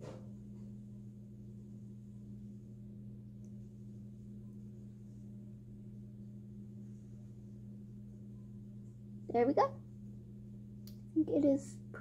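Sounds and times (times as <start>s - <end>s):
mains hum: 0.0s - 12.0s.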